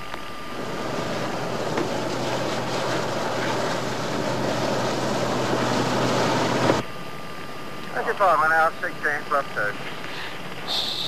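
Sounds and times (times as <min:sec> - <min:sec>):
low hum: 0:00.0 - 0:11.0
helicopter engines and rotor: 0:00.4 - 0:11.0.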